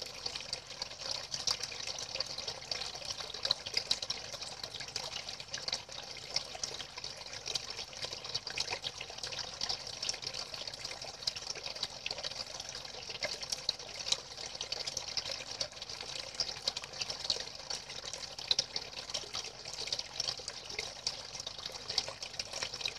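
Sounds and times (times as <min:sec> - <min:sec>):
water pouring into water: 0:00.0 - 0:22.9.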